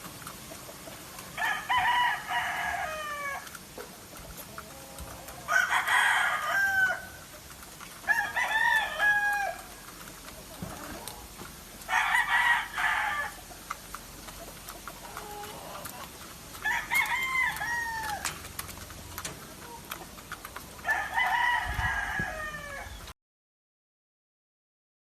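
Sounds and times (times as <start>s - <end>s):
roosters crowing: 0.8s - 23.1s.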